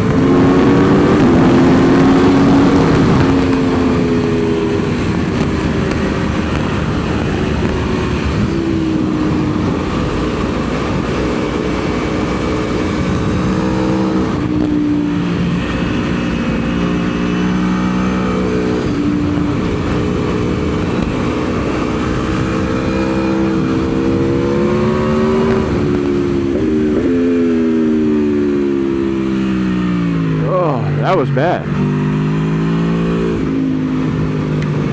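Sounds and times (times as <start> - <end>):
motorcycle engine pulling hard: 0.0 - 34.9
wind noise: 0.0 - 34.9.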